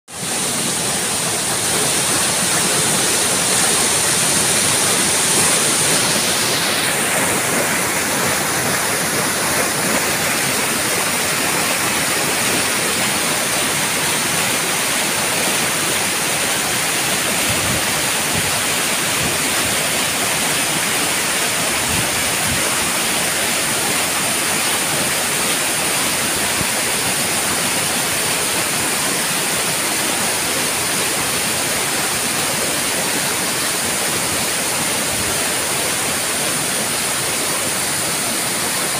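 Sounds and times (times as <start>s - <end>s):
waterfall crashing onto rocks: 0.1s - 38.9s.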